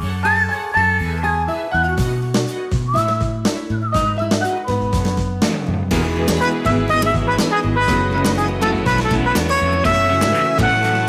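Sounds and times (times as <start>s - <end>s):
upbeat theme music with drums: 0.0s - 11.0s.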